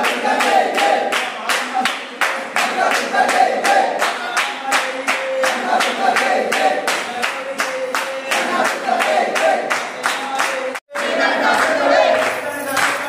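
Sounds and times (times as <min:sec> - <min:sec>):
group singing devotional song: 0:00.0 - 0:13.0
hand claps: 0:00.0 - 0:13.0.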